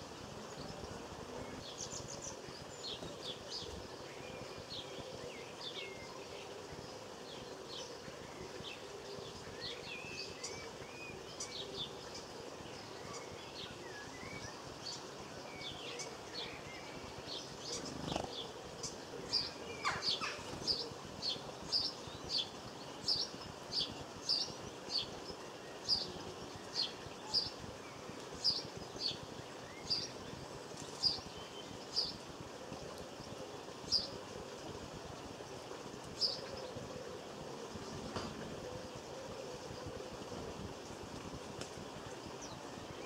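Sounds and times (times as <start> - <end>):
songbirds chirping and twittering: 0.0 - 43.0.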